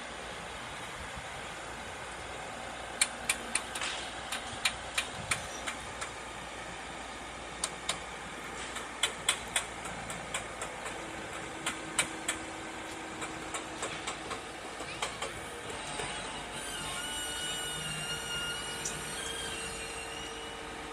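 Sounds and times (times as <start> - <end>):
engine running steadily: 0.0 - 20.9.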